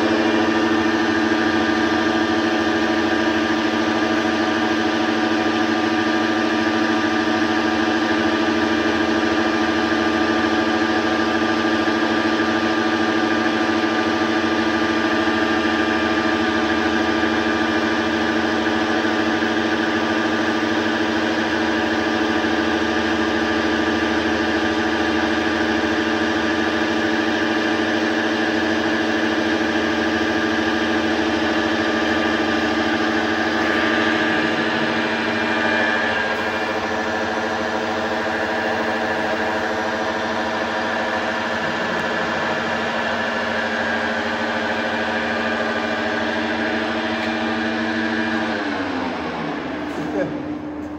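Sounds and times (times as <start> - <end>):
metal lathe whining: 0.0 - 50.9.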